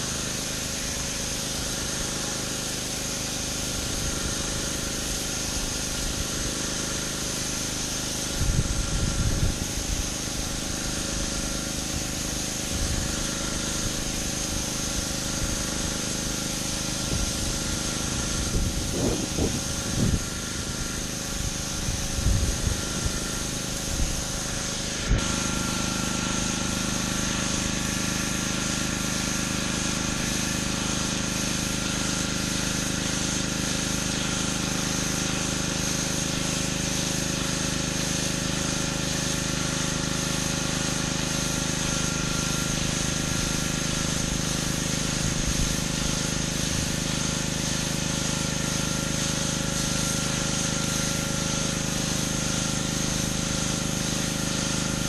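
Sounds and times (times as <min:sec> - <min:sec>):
high-pressure water spraying: 0:00.0 - 0:55.0
pressure washer engine running: 0:00.0 - 0:55.0.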